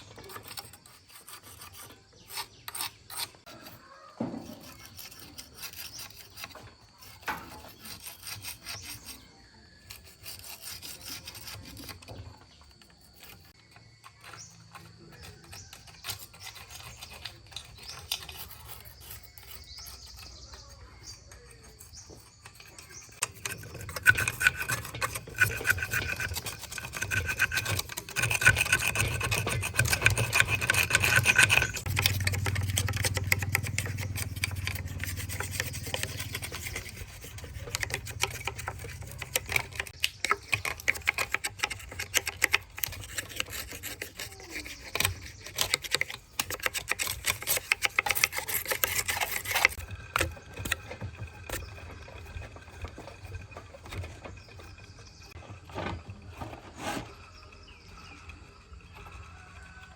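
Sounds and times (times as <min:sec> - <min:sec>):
tools scraping on metal: 0:00.0 - 0:59.9.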